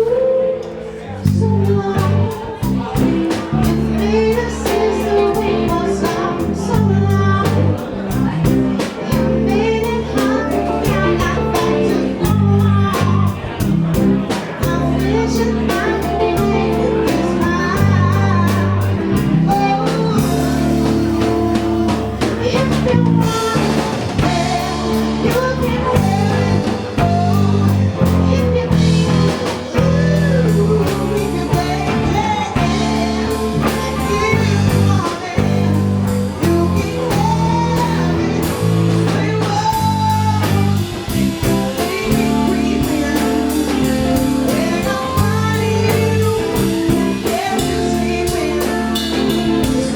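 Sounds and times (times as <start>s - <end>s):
drum kit: 0.0s - 49.9s
guitar: 0.0s - 49.9s
person singing: 0.0s - 49.9s.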